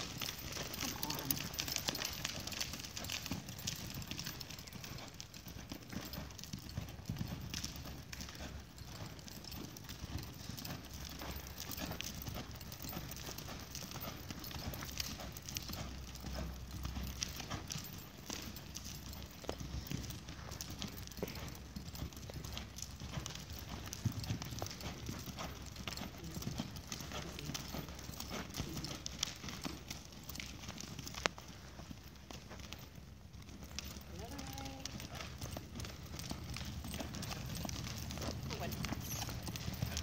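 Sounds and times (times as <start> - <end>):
horse hoofbeats on dirt: 0.0 - 40.0.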